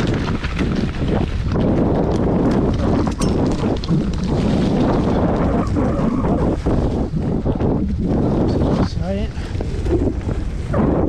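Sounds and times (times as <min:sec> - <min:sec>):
bike rattling and knocking: 0:00.0 - 0:10.5
bike tyre noise on dirt: 0:00.0 - 0:11.0
wind noise on microphone: 0:00.0 - 0:11.0.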